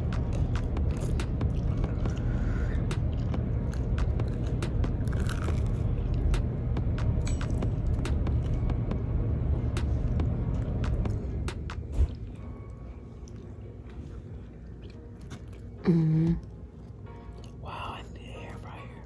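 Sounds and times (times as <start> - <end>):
people crunching and chewing: 0.0 - 8.8, 9.9 - 17.6
steady low rumble: 0.0 - 19.0.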